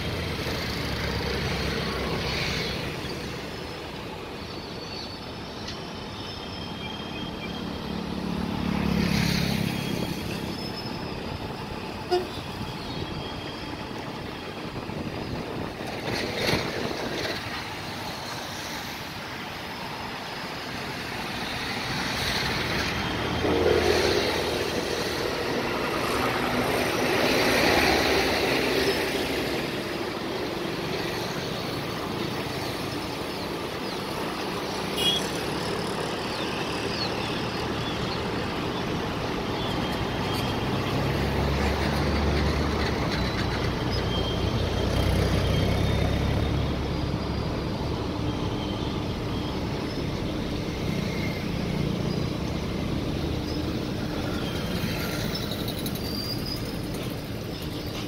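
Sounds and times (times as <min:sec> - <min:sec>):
rumble of train wheels on rails: 0:00.0 - 0:58.0.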